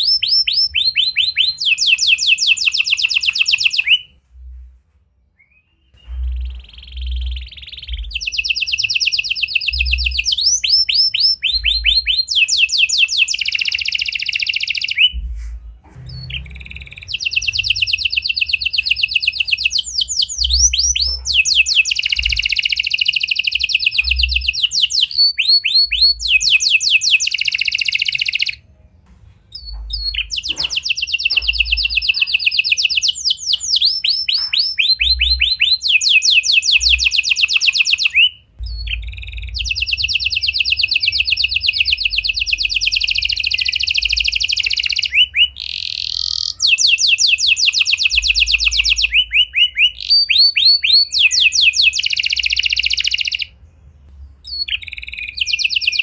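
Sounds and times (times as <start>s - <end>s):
canary singing trills: 0.0s - 4.2s, 5.4s - 28.7s, 29.5s - 56.0s.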